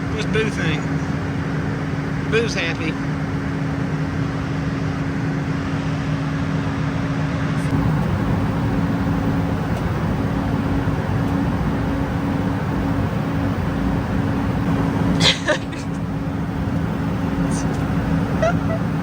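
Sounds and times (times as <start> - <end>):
jet cabin engine drone: 0.0 - 19.0.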